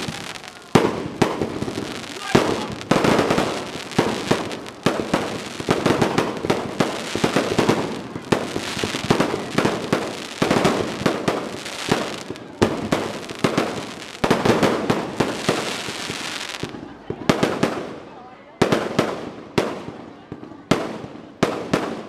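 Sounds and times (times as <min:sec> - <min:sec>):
fireworks booming and crackling: 0:00.0 - 0:22.0.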